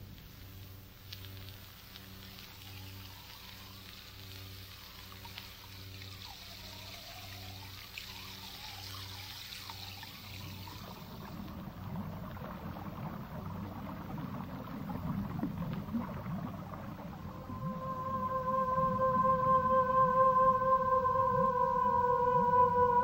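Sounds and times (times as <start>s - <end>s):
low hum: 0.0s - 23.0s
stream of liquid pouring: 1.3s - 19.9s.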